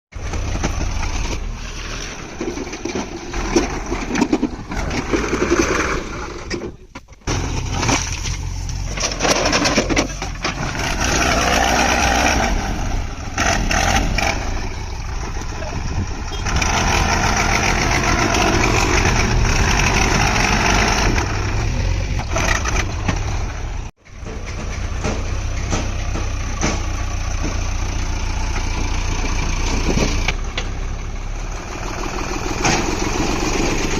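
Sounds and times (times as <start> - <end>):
diesel machinery engine running: 0.1 - 5.4, 7.2 - 33.9.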